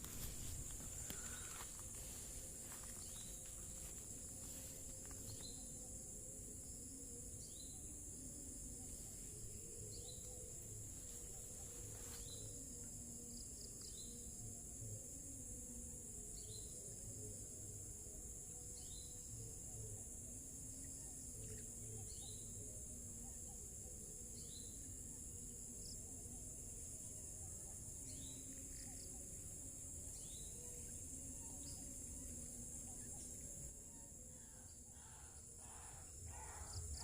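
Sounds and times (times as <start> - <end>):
faint low wavering tone: 0.0 - 37.0
high-pitched insect chorus: 0.0 - 37.0.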